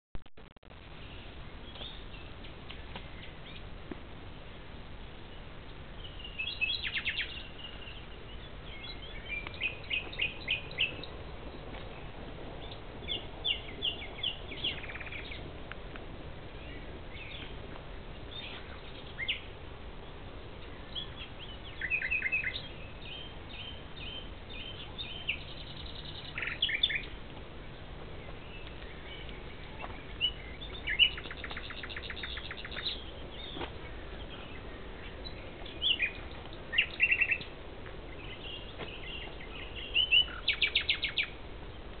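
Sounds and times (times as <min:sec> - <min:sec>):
nightingale singing: 0:01.0 - 0:03.7, 0:05.2 - 0:15.5, 0:16.5 - 0:41.9.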